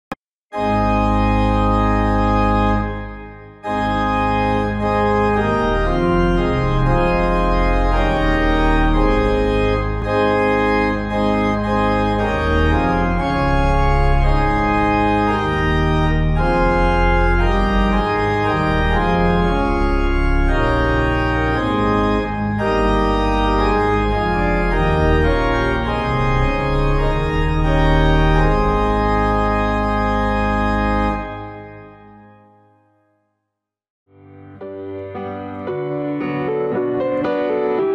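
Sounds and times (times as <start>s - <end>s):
organ sustained chords: 0.5s - 32.8s.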